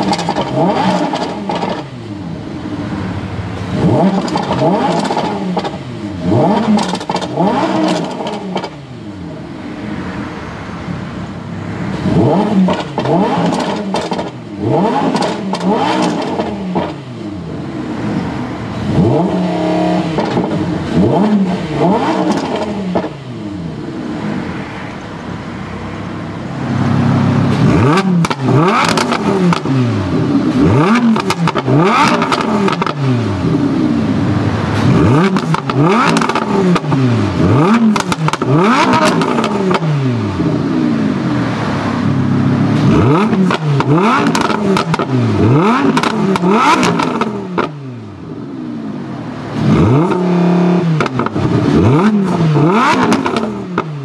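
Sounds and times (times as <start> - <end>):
sports car engine revving: 0.0 - 10.0, 11.9 - 24.7, 26.4 - 54.0.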